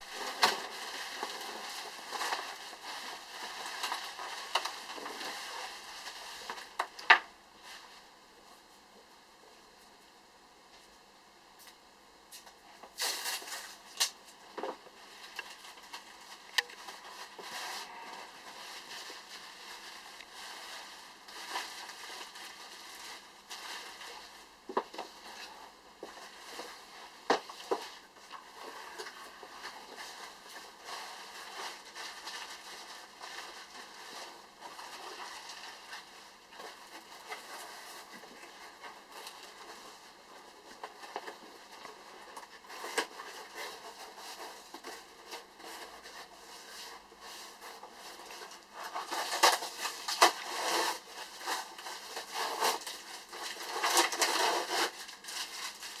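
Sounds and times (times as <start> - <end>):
rustling handling noise: 0.0 - 9.1, 10.7 - 56.0
faint high hum: 0.0 - 55.9.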